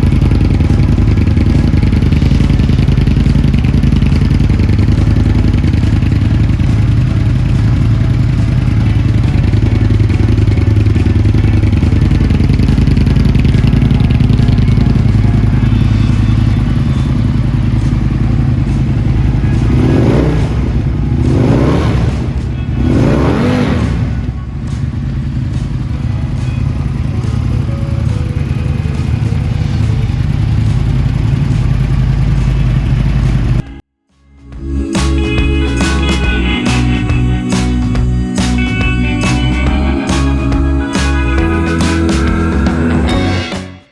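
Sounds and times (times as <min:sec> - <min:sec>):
motorcycle engine idling and revving: 0:00.0 - 0:33.9, 0:34.7 - 0:43.4.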